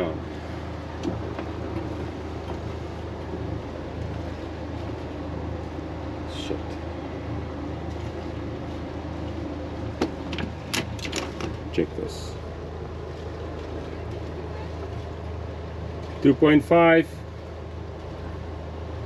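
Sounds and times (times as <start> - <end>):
diesel engines idling: 0.0 - 19.0
water noise: 0.0 - 19.0
wind: 0.0 - 19.0.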